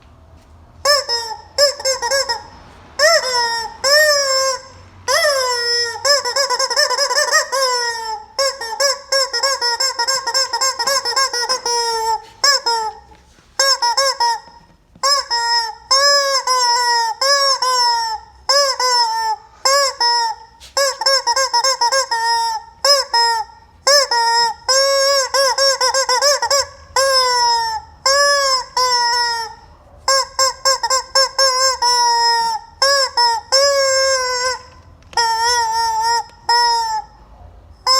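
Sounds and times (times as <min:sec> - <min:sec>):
rubber chicken toy squawking: 0:00.8 - 0:37.2.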